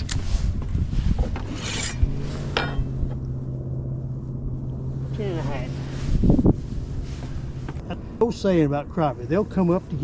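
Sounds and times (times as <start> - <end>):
steady low hum: 0.2 - 10.0.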